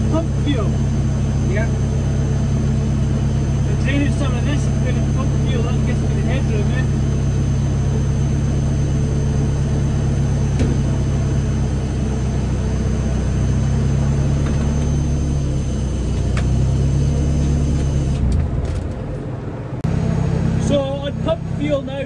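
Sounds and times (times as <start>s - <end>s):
rotary engine idling: 0.0s - 22.0s.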